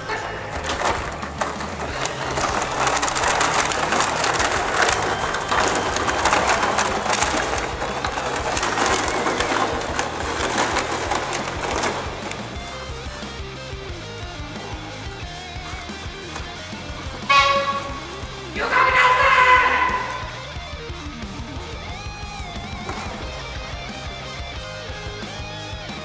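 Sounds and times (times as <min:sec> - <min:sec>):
plastic bags crinkling: 0:00.0 - 0:25.4
background music: 0:00.0 - 0:26.0.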